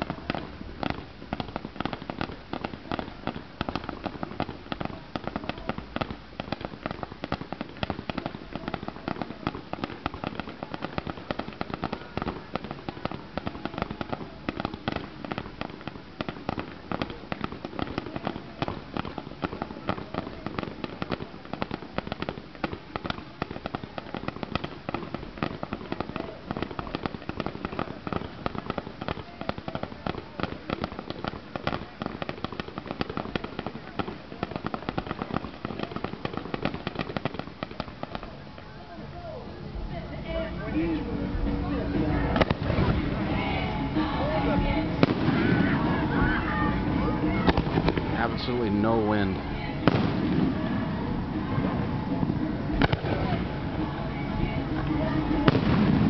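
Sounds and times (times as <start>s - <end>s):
fireworks popping and banging: 0.0s - 56.0s.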